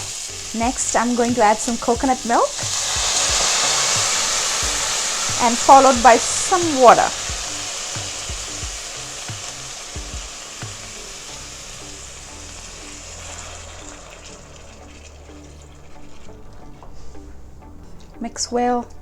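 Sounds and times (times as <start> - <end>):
liquid sizzling in hot skillet: 0.0 - 17.3
faint background music: 0.0 - 19.0.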